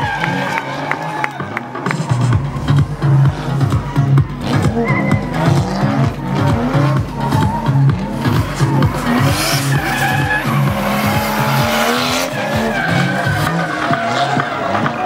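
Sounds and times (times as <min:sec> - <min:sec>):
car engine revving: 0:00.0 - 0:15.0
tyres screeching: 0:00.0 - 0:15.0.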